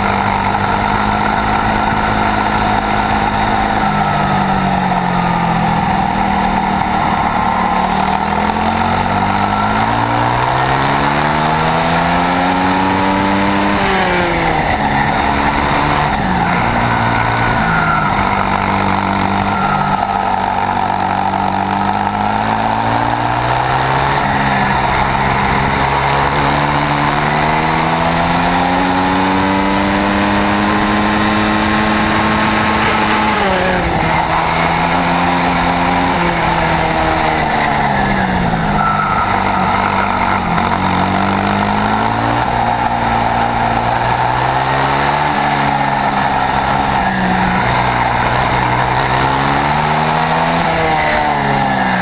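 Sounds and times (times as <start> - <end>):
kart engine racing: 0.0 - 52.0
wind and road noise: 0.0 - 52.0.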